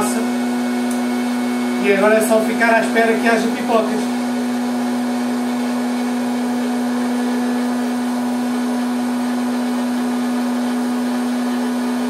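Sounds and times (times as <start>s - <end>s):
popcorn maker fan humming: 0.0s - 12.0s.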